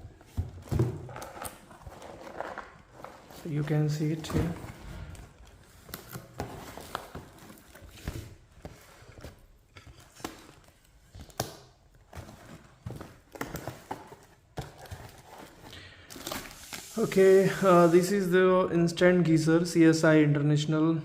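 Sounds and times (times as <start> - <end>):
packaging rustling: 0.1 - 17.8.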